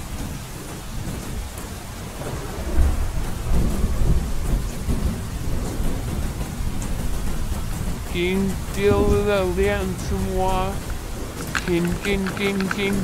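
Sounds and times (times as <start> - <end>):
low rumble of thunder: 0.0 - 13.0
steady rain falling: 0.0 - 13.0.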